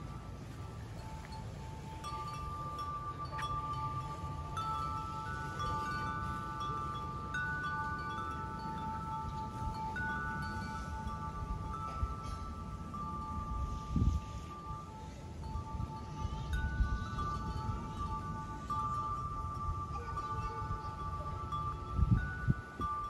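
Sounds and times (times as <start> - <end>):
metal wind chime ringing: 0.0 - 23.0.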